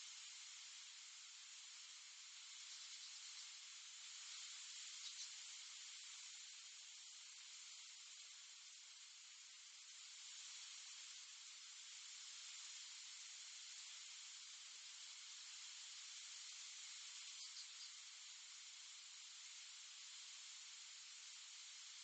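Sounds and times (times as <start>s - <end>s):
faint microphone hiss: 0.0s - 22.0s.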